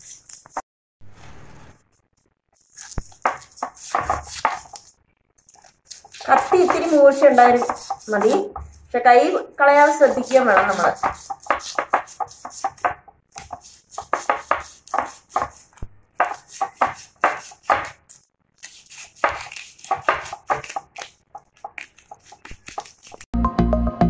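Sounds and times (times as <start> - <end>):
knife scraping fish scales: 0.0 - 0.6, 2.6 - 8.9, 9.9 - 23.3.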